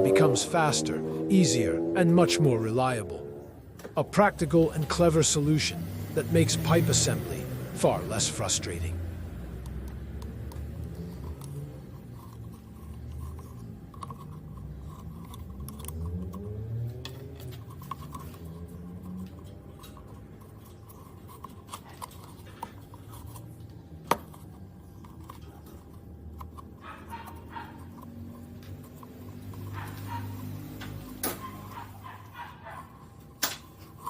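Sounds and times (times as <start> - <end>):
scraping and rubbing handling sounds: 0.0 - 34.0.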